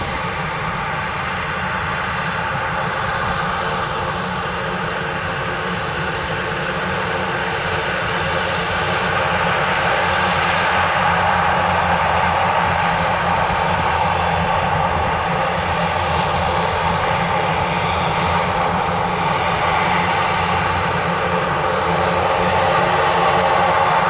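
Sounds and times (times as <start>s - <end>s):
turboprop engines running: 0.0s - 24.0s.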